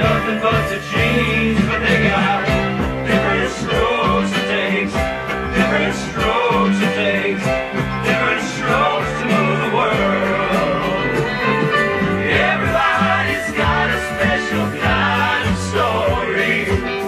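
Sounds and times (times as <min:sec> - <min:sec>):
upbeat guitar music with beat: 0:00.0 - 0:17.0.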